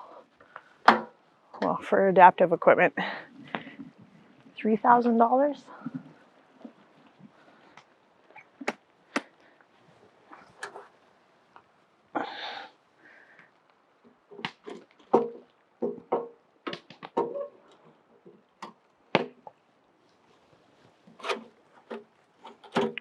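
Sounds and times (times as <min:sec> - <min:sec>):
rustle: 0:00.0 - 0:23.0.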